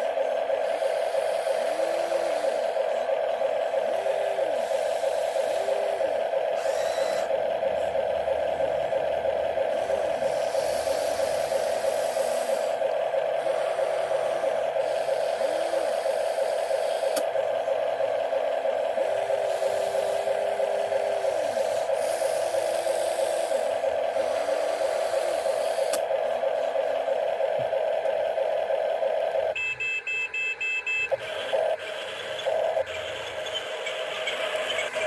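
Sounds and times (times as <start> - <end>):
motor spinning up and winding down: 0.0 - 29.5
toy electric motors whirring: 0.6 - 29.6, 31.1 - 35.0.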